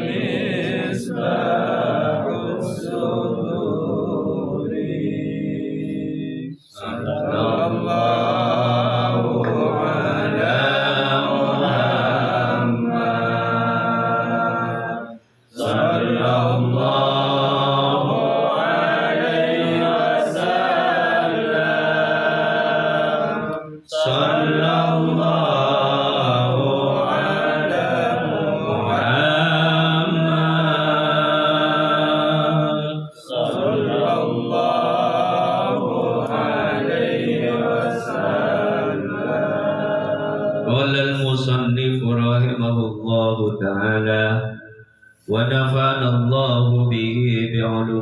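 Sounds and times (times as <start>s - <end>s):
devotional chanting: 0.0s - 48.0s.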